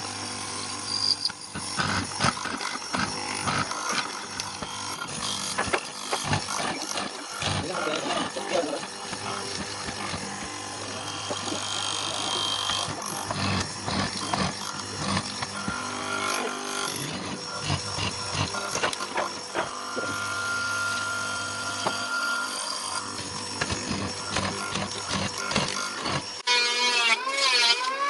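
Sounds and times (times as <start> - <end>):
electric power tool humming: 0.0 - 28.0.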